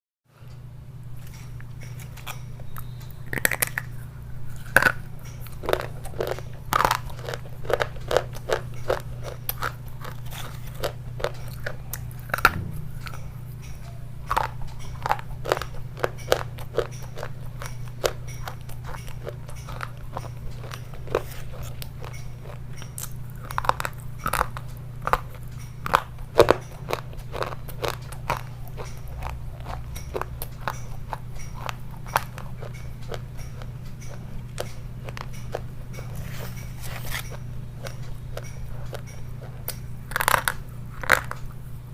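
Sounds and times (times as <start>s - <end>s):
steady low hum: 0.3s - 41.9s
person chewing dry clay: 1.1s - 41.8s.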